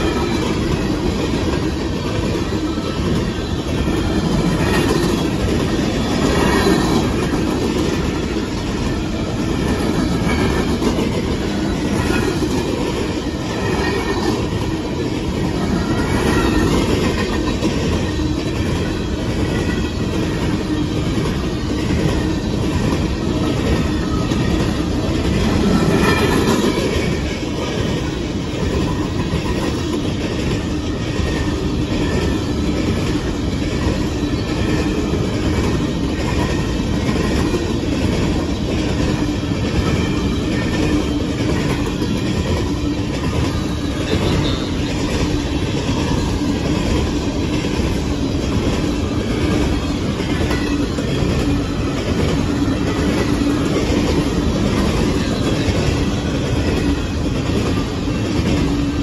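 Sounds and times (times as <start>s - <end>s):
clickety-clack of train wheels: 0.0s - 59.0s
freight train rumbling past: 0.0s - 59.0s.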